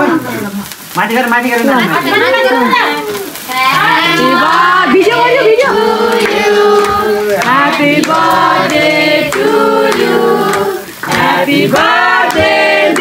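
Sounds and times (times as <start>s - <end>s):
group singing a celebration song: 1.0s - 13.0s.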